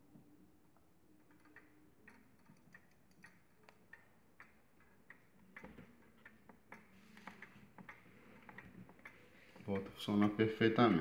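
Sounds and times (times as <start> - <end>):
clock ticking faintly: 1.1 - 11.0.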